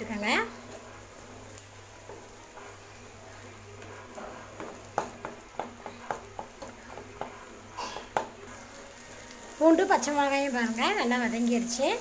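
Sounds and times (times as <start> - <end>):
faint frying sizzle: 0.0 - 12.0.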